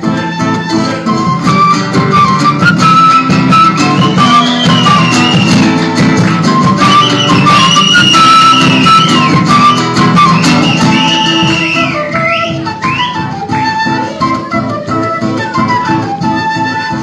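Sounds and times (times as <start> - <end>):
plucked and strummed strings: 0.0 - 17.0.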